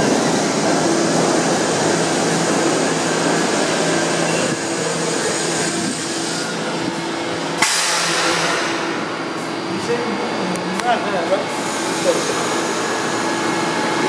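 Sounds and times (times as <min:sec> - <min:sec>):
subway train rumbling past: 0:00.0 - 0:14.0.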